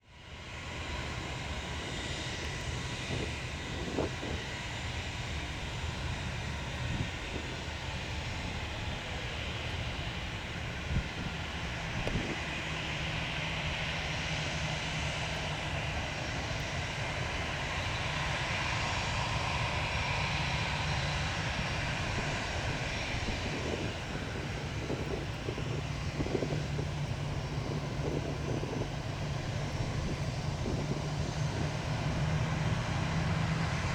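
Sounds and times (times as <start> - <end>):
airliner engines rumbling: 0.0 - 33.9.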